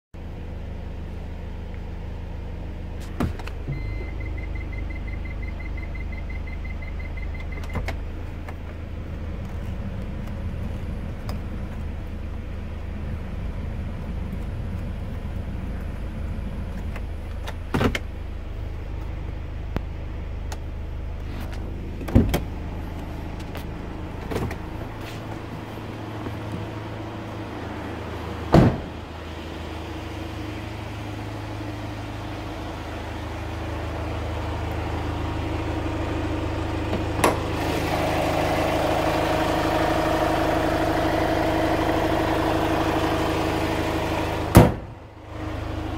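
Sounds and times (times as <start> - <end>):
diesel engine idling: 0.2 - 45.9
ventilation fan rushing: 7.7 - 45.9.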